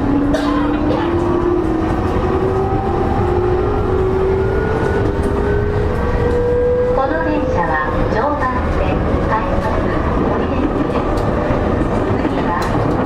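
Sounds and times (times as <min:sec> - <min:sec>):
wheel and rail rumble: 0:00.0 - 0:13.0.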